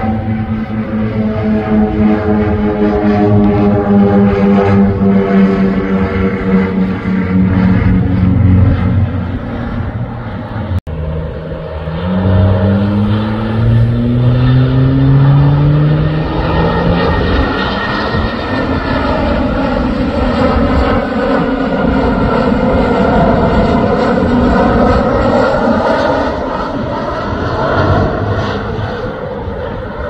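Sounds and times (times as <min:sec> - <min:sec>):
jet engine drone: 0:00.0 - 0:30.0.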